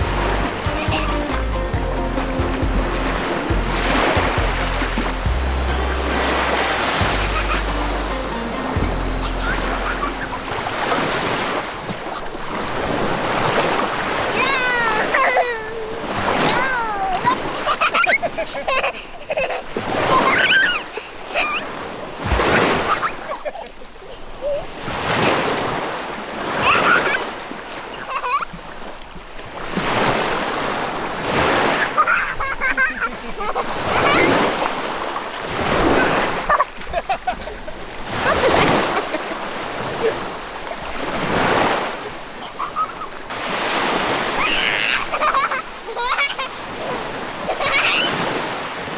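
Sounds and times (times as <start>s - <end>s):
waves washing in: 0.0s - 48.9s.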